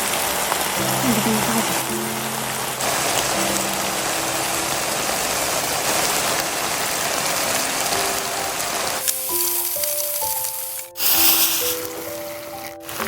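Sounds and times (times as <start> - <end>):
food sizzling in hot oil: 0.0 - 13.0
soft background music: 0.1 - 13.0.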